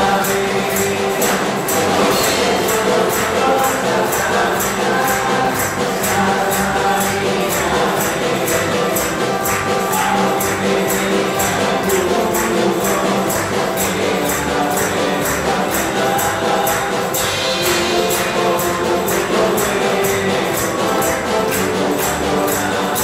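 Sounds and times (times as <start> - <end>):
high percussion beat: 0.0 - 23.0
live band playing: 0.0 - 23.0.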